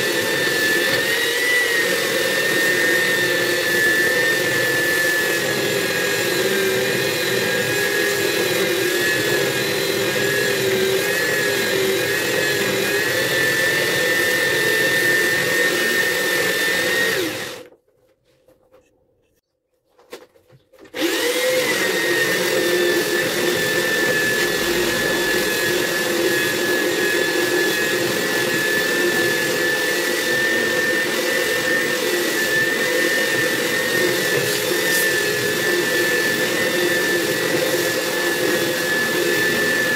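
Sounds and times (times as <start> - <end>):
belt sander on wood: 0.0 - 17.7, 21.0 - 39.9.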